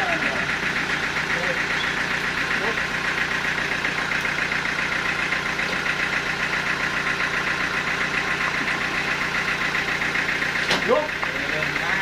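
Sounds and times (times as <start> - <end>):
engine ticking over: 0.0 - 12.0.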